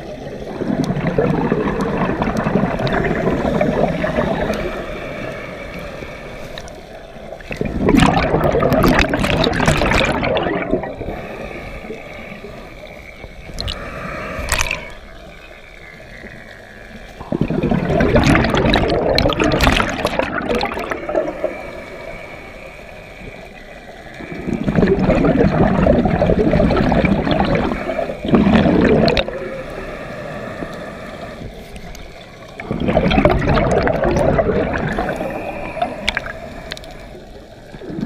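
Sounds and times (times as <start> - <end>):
scuba regulator exhaust bubbles: 0.0 - 16.5, 17.2 - 22.2, 24.0 - 38.0.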